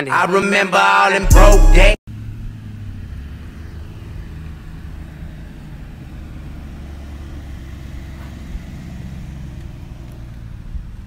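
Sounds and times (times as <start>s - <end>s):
vehicle engine idling: 1.3s - 11.0s.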